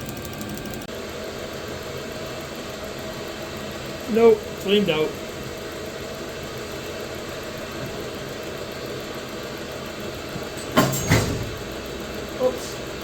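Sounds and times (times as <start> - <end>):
heater fan running: 0.0 - 13.0.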